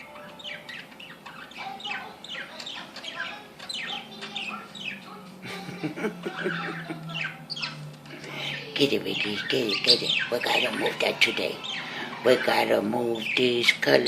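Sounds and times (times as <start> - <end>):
parakeets chirping and chattering: 0.0 - 14.0.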